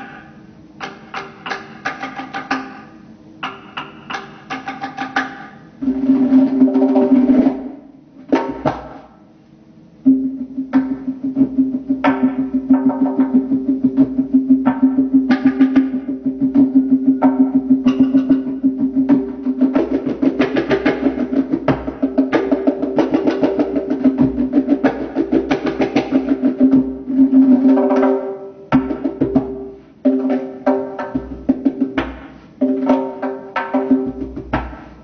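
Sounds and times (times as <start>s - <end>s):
goblet drum played by hand: 0.0s - 9.1s, 10.0s - 35.0s.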